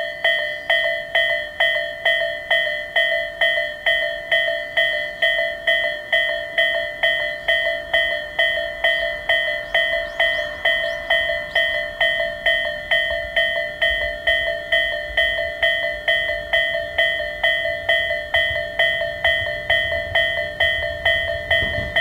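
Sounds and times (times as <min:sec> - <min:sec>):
level crossing warning bell: 0:00.0 - 0:22.0.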